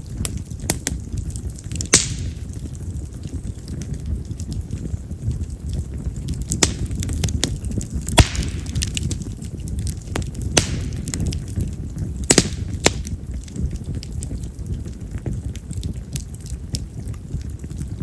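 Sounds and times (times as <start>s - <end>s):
campfire flame rumble: 0.0s - 18.0s
fire crackling and popping: 0.0s - 18.0s.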